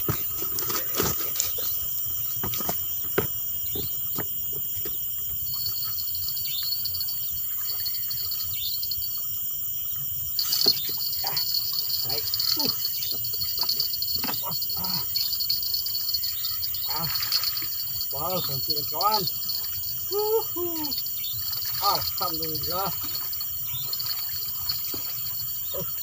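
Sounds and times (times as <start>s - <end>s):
night insects chirping: 0.0s - 26.0s.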